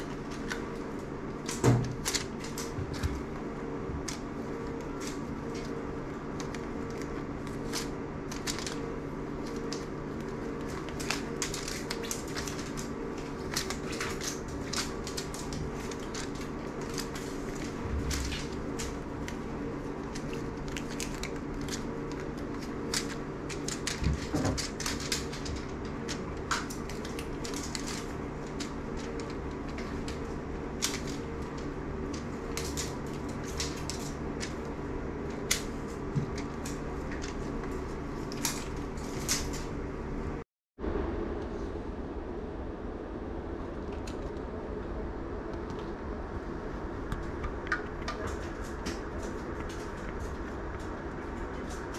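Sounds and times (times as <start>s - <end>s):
mechanical hum: 0.0s - 51.9s.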